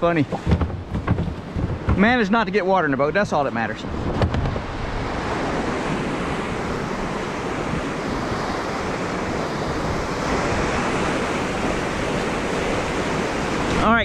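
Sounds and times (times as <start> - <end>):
water rushing in rapids: 1.6 - 14.0.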